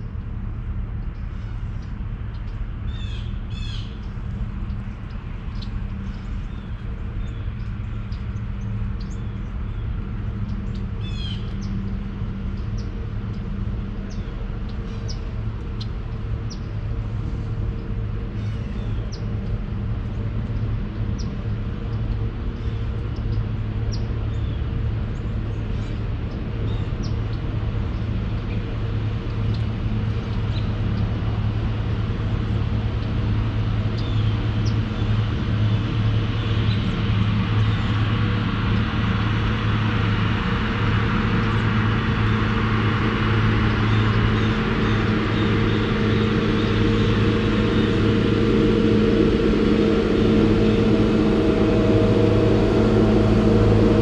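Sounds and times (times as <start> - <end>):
engine humming: 0.0 - 54.0.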